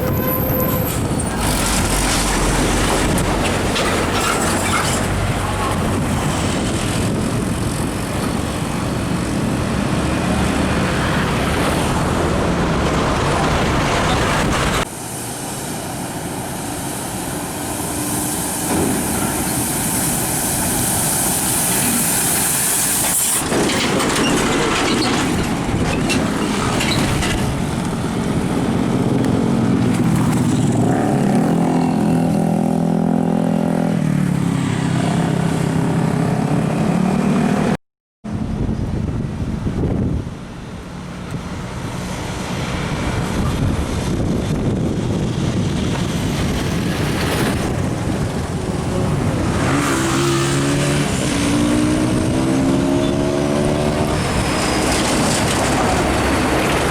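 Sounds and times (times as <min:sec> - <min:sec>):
heavy trucks driving past: 0:00.0 - 0:56.9.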